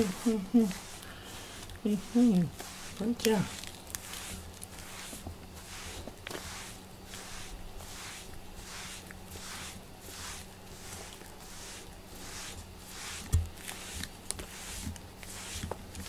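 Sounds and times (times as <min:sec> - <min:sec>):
glove swishing on fur: 0:00.0 - 0:15.8.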